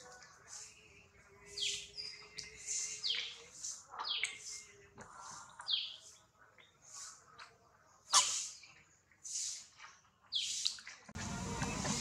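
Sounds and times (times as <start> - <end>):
birds chirping: 0.1 - 9.6, 10.2 - 12.0.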